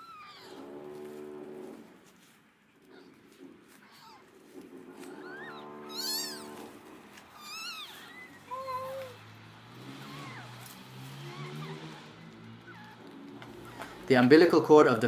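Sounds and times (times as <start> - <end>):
kittens mewing: 0.0 - 1.0, 2.8 - 14.3.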